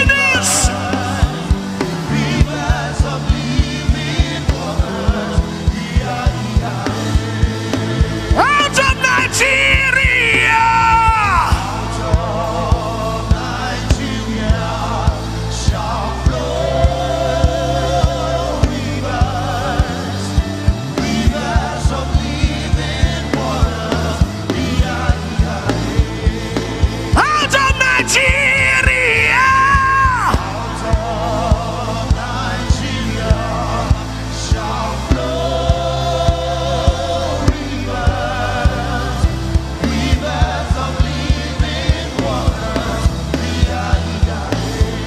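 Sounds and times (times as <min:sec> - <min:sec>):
faint voices singing: 0:00.0 - 0:45.0
keyboard and bass chords: 0:00.0 - 0:45.0
worship band playing: 0:00.0 - 0:45.0.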